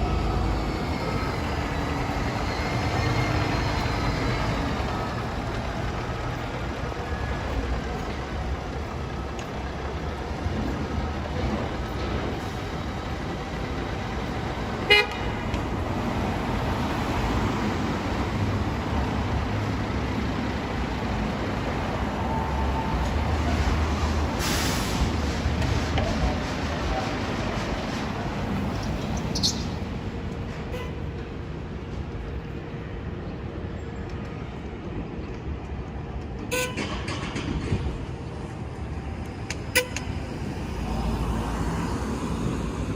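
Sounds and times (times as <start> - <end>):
diesel engine rumbling: 0.0 - 42.9.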